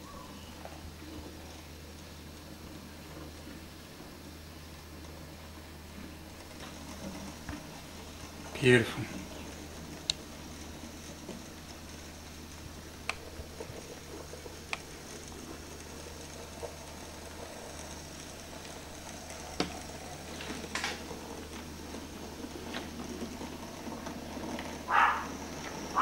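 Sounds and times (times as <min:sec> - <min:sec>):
model train humming: 0:00.0 - 0:26.0
wheels clicking over track: 0:00.0 - 0:26.0.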